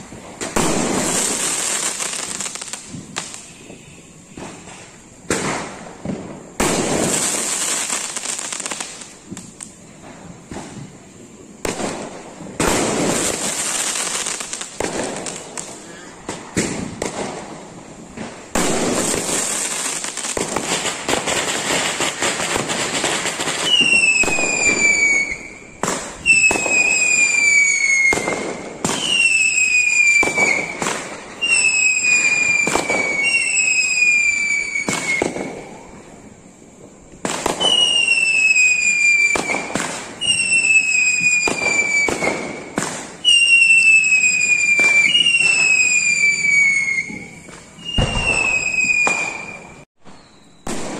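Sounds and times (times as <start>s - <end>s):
burning firework hissing: 0.0s - 50.9s
whistling fireworks: 0.0s - 50.9s.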